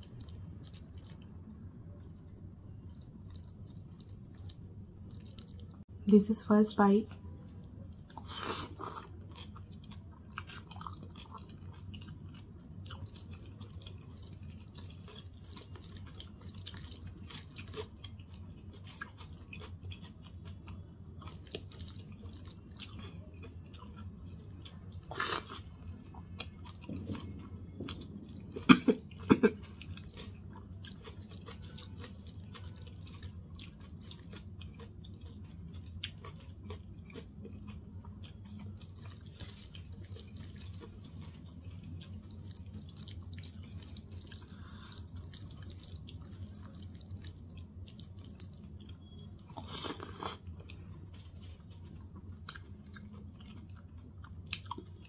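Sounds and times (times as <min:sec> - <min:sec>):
chewing and wet mouth sounds: 0:00.0 - 0:06.0, 0:06.9 - 0:55.0.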